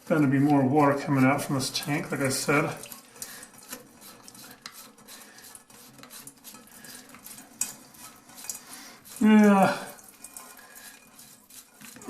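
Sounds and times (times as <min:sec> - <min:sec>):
water trickling and dripping into pot: 0:00.0 - 0:12.0.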